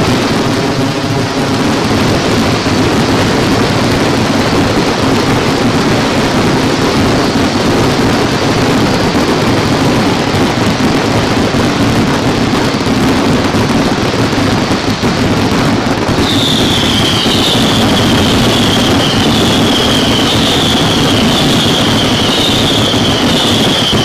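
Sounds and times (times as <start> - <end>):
descending firework whistles: 0.0 - 24.0
fireworks bursting and crackling: 0.0 - 24.0.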